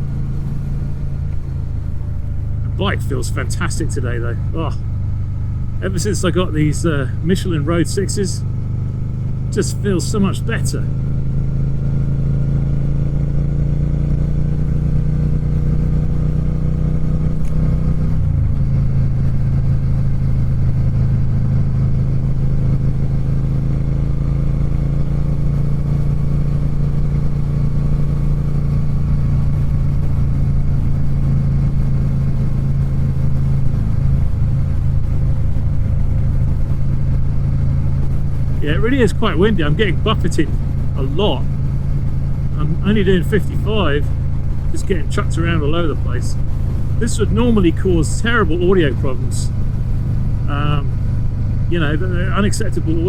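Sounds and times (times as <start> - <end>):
muffled motorcycle engine cruising: 0.0 - 53.0
road noise: 0.0 - 53.0.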